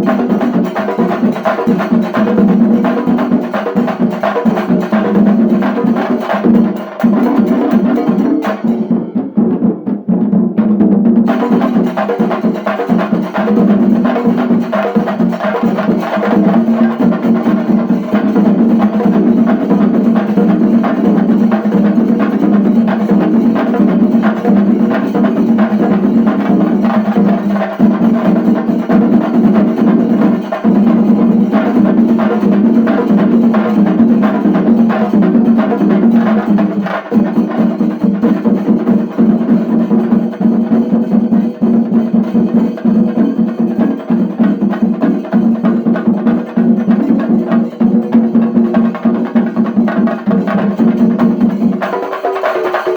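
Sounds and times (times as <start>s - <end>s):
drums beaten fast with sticks: 0.0s - 52.9s.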